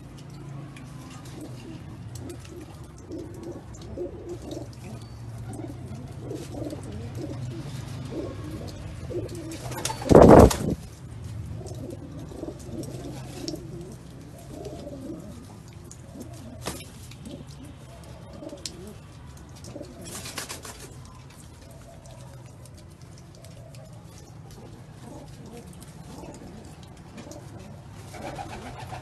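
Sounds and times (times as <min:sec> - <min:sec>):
pigeons cooing: 0:00.9 - 0:29.0.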